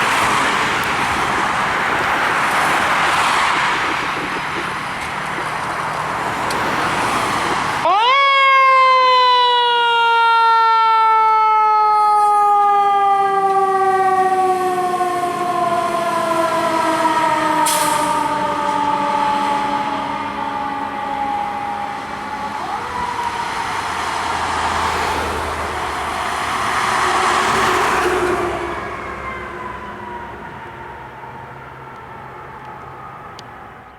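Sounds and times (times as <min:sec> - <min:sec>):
truck engine: 0:00.0 - 0:08.5, 0:09.4 - 0:33.9
fire engine siren wailing: 0:00.0 - 0:33.9
road noise: 0:00.0 - 0:33.9.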